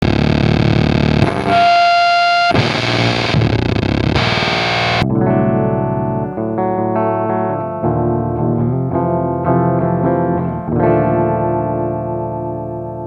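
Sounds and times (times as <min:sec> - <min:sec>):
clean guitar notes: 0:00.0 - 0:13.0
fuzz electric guitar: 0:00.0 - 0:13.0.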